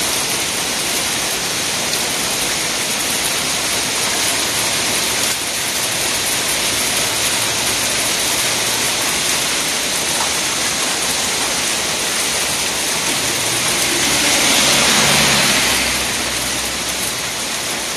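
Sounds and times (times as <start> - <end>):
hail and rain on umbrella: 0.0 - 17.9.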